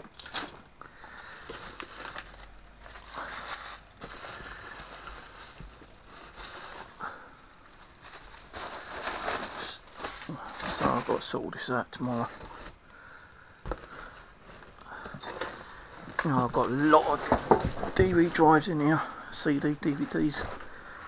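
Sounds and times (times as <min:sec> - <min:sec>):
objects and cables rummaged: 0:00.0 - 0:13.0, 0:13.6 - 0:21.0.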